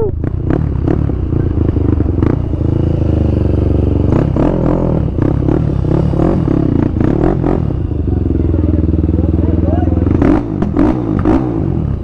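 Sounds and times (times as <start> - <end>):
motorcycle engine running low revs: 0.0 - 12.0.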